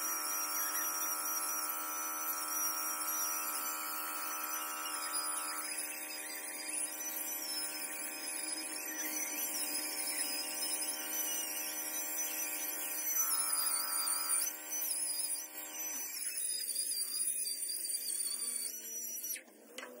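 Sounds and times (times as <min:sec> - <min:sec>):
stone polisher whining: 0:00.0 - 0:20.0.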